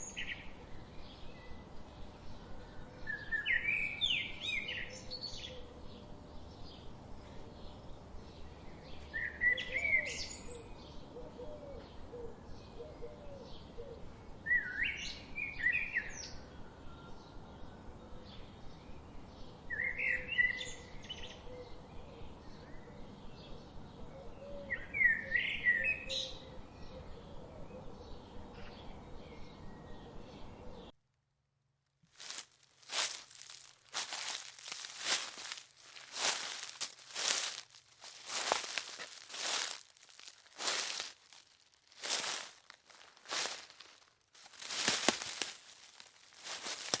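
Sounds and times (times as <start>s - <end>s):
songbird singing: 0.0s - 31.0s, 32.2s - 47.0s.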